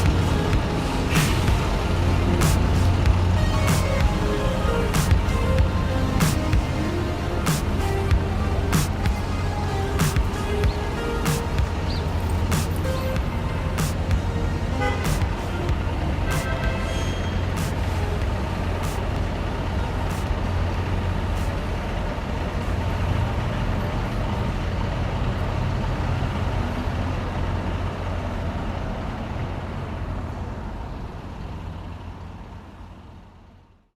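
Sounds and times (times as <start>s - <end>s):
heavy vehicles rumbling: 0.0s - 33.8s.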